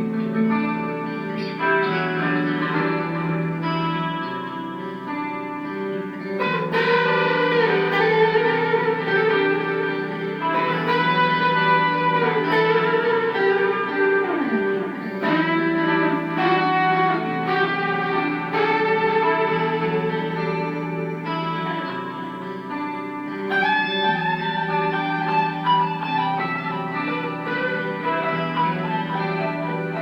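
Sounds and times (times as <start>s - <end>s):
electric guitar lead melody: 0.0s - 30.0s.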